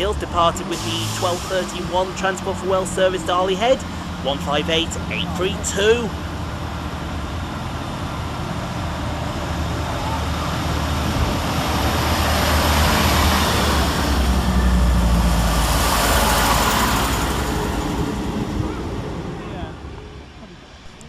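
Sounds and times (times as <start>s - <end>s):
diesel train engines droning: 0.0s - 21.0s.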